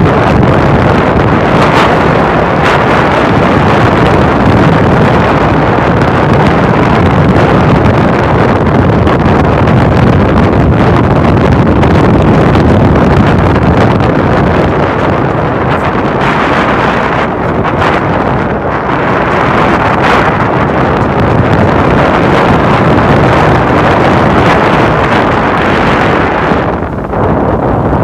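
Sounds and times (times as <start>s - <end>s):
boat moving through water: 0.0s - 28.0s
wind rushing over microphone: 0.0s - 28.0s.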